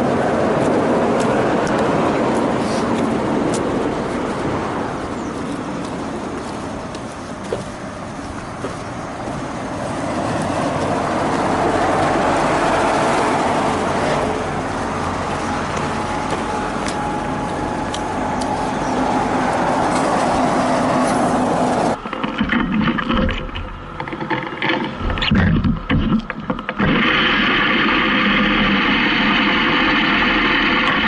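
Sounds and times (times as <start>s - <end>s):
rushing riding noise: 0.0s - 31.0s.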